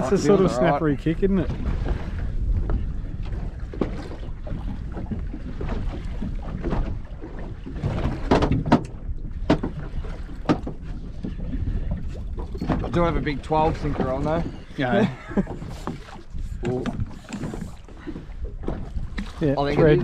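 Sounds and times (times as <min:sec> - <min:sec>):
water lapping against boat hull: 0:00.0 - 0:20.0
wind rumbling on microphone: 0:00.0 - 0:20.0.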